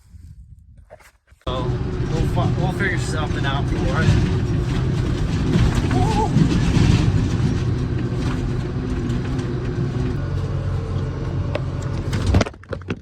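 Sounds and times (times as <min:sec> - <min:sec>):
road and cab noise: 0:01.4 - 0:13.0
vehicle engine running: 0:01.5 - 0:13.0.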